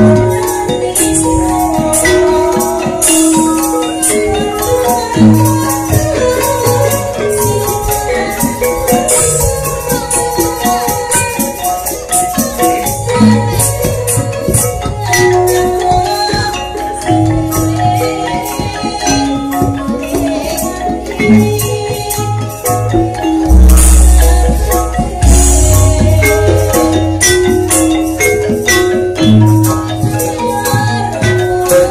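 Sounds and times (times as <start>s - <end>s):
drum strokes: 0.0s - 31.9s.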